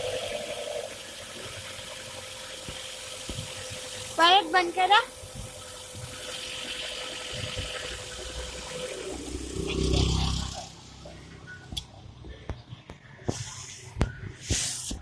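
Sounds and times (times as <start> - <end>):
car engine running: 0.0 - 13.2
engine whine and hiss: 0.0 - 15.0
low engine rumble: 0.0 - 15.0.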